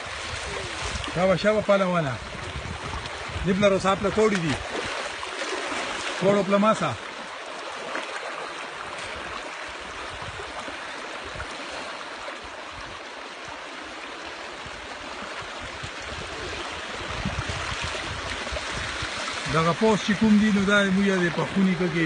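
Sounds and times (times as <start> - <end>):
water rushing over stony ground: 0.0 - 22.0.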